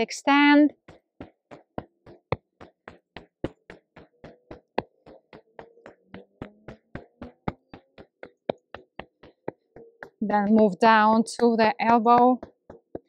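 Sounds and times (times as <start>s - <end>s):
hand tapping on sleeve: 0.8s - 13.0s.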